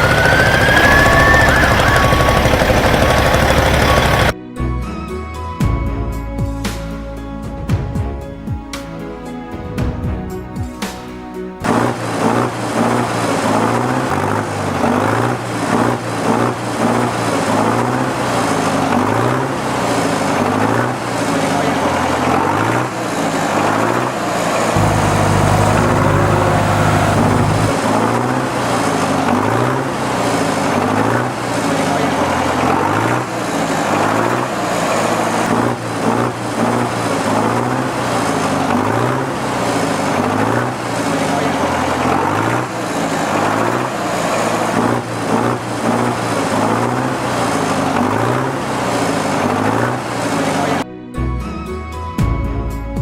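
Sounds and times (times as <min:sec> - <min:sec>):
heavy vehicle engine revving: 0:00.0 - 0:04.4, 0:07.5 - 0:50.8.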